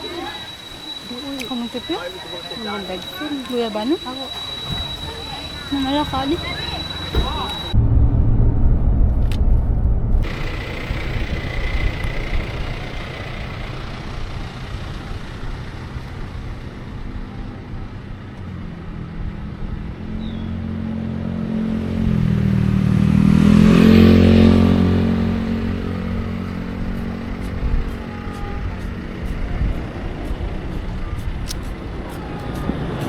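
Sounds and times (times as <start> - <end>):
low rumble of traffic: 0.0 - 33.0
vehicle engine passing by: 0.0 - 33.0.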